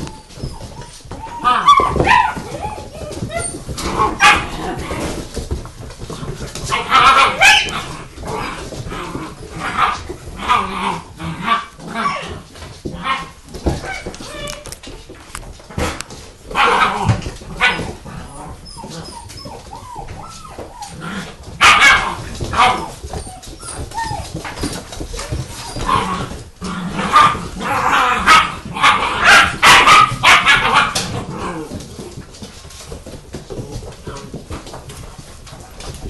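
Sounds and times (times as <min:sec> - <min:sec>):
puppies barking and yipping: 0:00.0 - 0:34.0.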